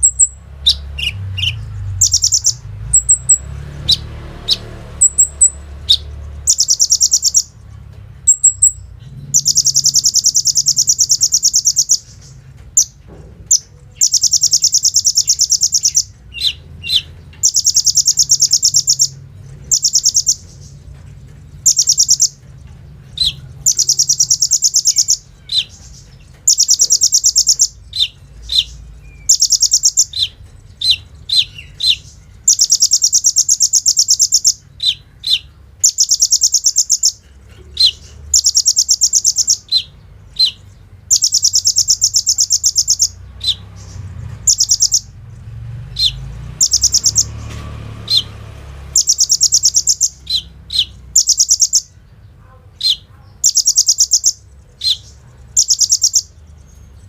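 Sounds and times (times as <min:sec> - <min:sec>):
bird fast trills: 0:00.0 - 0:07.6, 0:08.2 - 0:20.9, 0:21.6 - 0:22.5, 0:23.1 - 0:52.0, 0:52.8 - 0:56.9.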